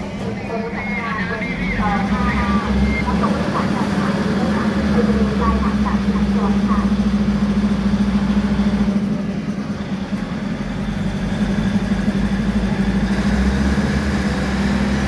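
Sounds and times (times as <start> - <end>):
diesel railcar engines idling: 0.0 - 15.0.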